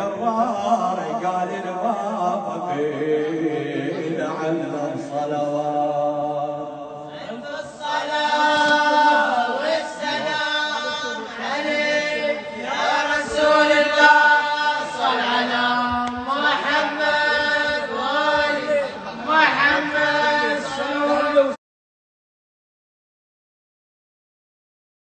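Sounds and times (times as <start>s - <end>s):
man chanting into a microphone: 0.0s - 21.6s.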